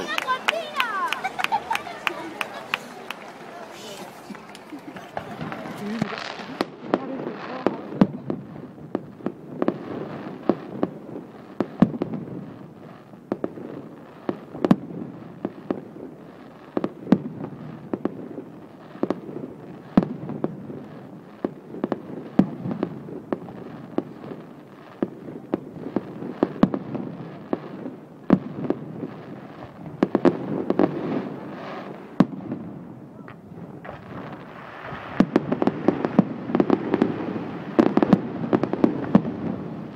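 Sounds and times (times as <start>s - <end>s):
fireworks bursting: 0.0s - 39.9s
sharp firework bangs: 5.0s - 39.9s.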